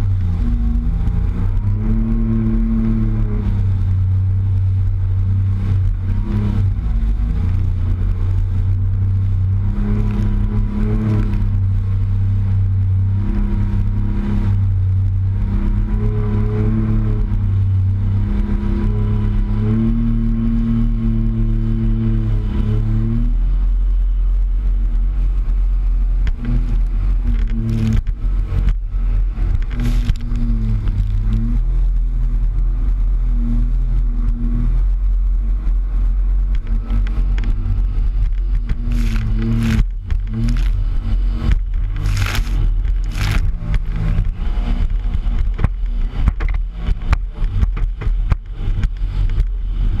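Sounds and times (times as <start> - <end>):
jet ski engine running: 0.0 - 50.0
low wind rumble: 0.0 - 50.0.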